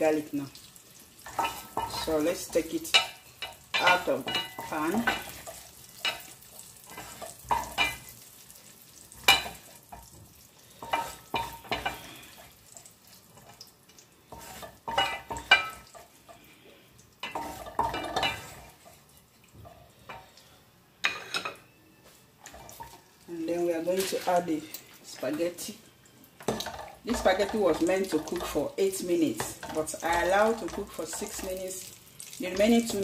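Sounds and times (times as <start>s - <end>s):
faint sizzle of hot fat: 0.0s - 33.0s.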